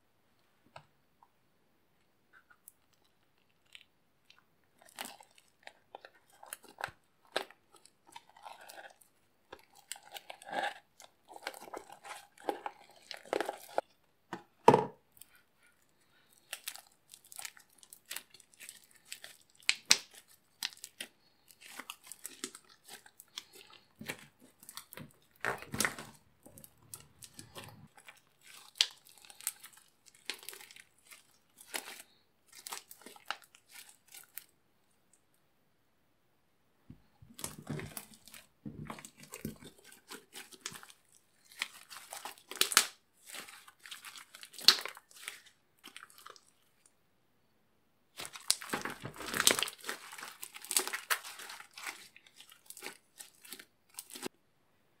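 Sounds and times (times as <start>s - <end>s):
slime with wax crunching: 2.8s - 13.9s, 15.2s - 34.5s, 37.3s - 46.9s, 48.1s - 54.3s.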